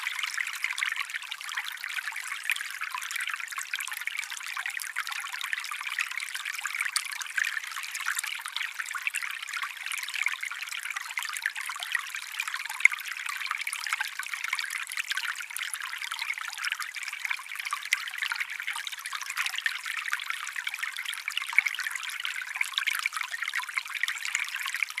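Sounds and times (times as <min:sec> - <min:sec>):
stream trickling and babbling: 0:00.0 - 0:25.0.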